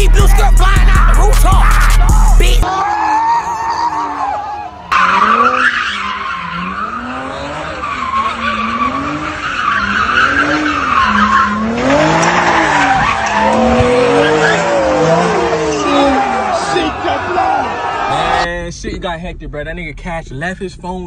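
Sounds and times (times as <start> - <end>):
tyres squealing and skidding: 0.0 - 18.5
car engine revving: 0.0 - 21.0.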